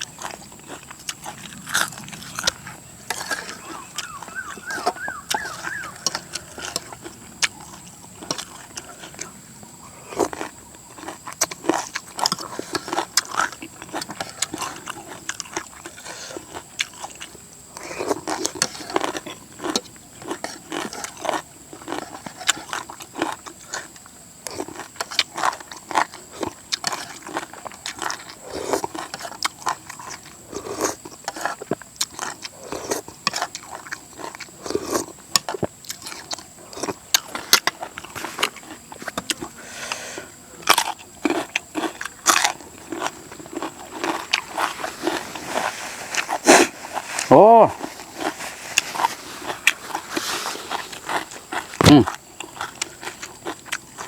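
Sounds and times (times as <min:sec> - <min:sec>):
person chewing and crunching: 0:00.0 - 0:54.0.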